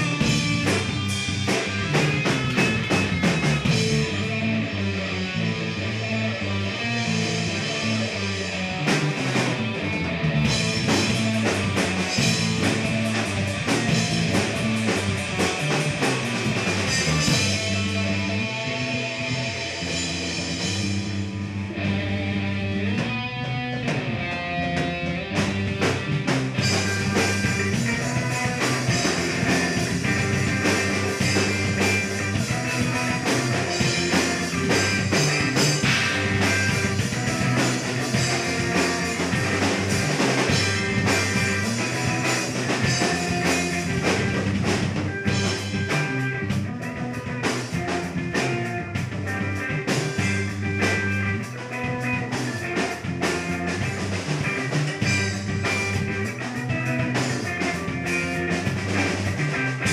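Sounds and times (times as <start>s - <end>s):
drum kit: 0.0s - 59.9s
electric bass guitar: 0.0s - 59.9s
electric guitar: 0.0s - 59.9s.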